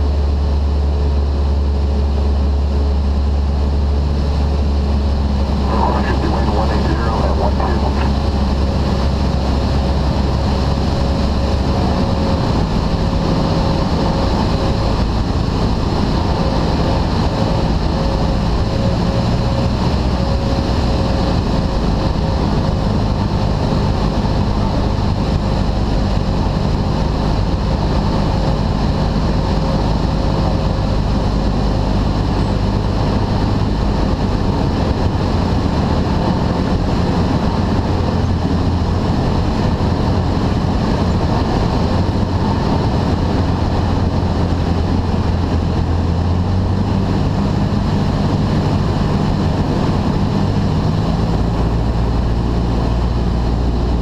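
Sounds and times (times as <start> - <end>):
aircraft engine and propeller droning: 0.0 - 54.0.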